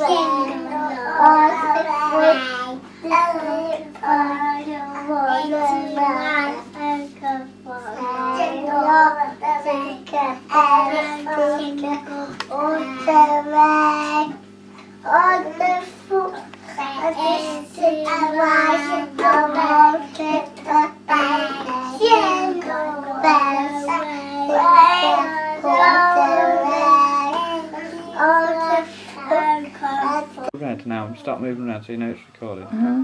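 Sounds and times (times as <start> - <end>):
young girl singing: 0.0 - 14.4, 15.0 - 30.5
faint low hum: 0.0 - 33.0.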